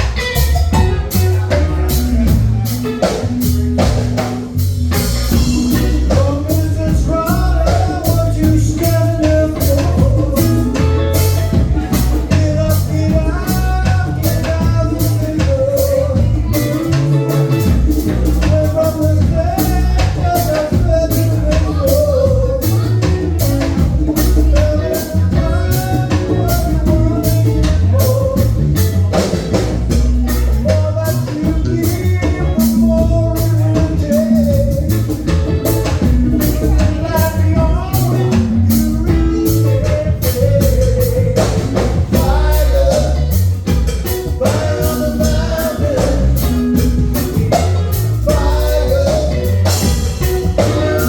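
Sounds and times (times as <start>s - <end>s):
live band playing upbeat song: 0.0s - 51.0s.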